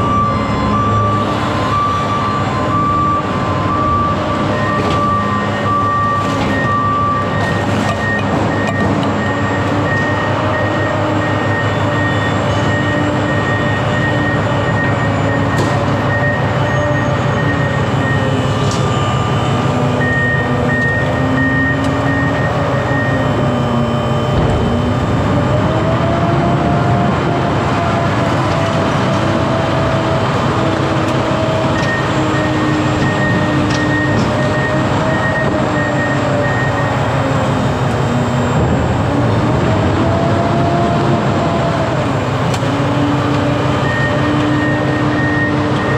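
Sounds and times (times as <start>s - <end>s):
vehicle running rumble and whine: 0.0s - 45.9s.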